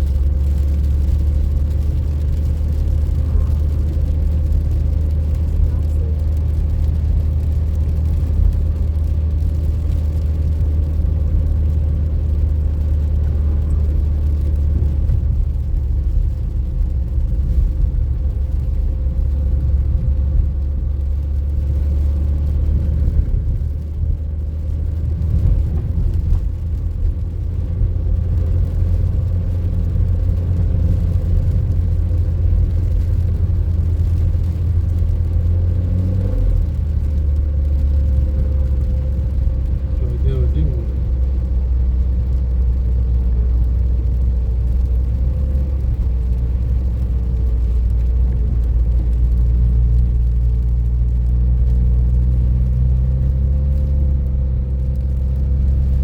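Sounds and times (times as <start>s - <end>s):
motor vehicle engine rumble: 0.0s - 56.0s.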